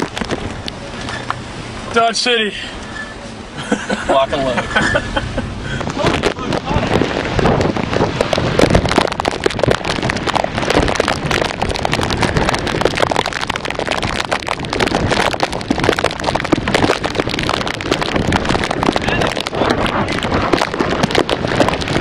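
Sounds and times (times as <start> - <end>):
wind buffeting microphone: 0.0 - 1.9, 2.8 - 22.0
driving rain: 0.0 - 22.0
hurricane wind: 0.0 - 22.0.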